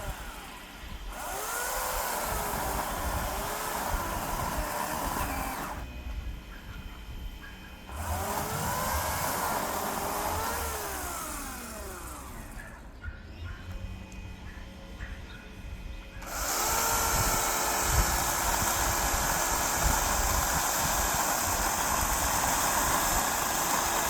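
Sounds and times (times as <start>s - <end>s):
electric chainsaw cutting wood: 0.0s - 6.1s, 7.8s - 15.1s, 16.2s - 24.0s.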